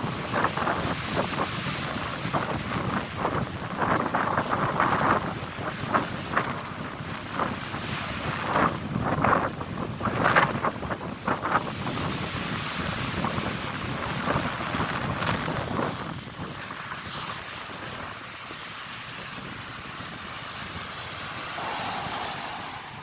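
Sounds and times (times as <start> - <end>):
breaking surf: 0.0 - 23.0
wind buffeting microphone: 0.0 - 23.0.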